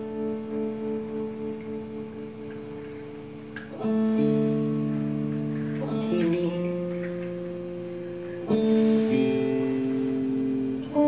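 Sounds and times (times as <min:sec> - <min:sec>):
guitar chords ringing: 0:00.0 - 0:11.0.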